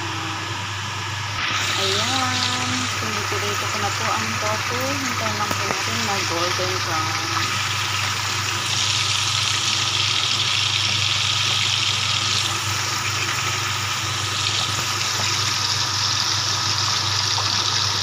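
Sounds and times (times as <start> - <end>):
tofu sizzling in hot oil: 1.4 - 18.0.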